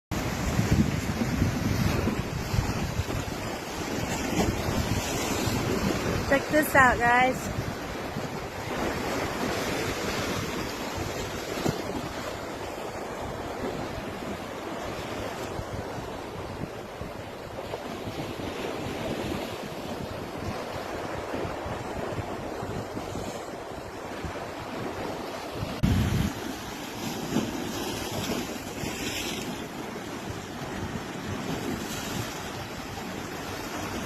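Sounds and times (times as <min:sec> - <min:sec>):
waves breaking on a beach: 0:00.1 - 0:34.0
wind rumbling on microphone: 0:00.1 - 0:34.0.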